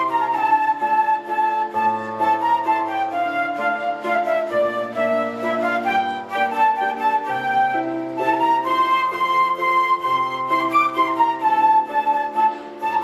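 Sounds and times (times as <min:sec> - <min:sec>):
orchestra playing slow film music: 0:00.0 - 0:13.0.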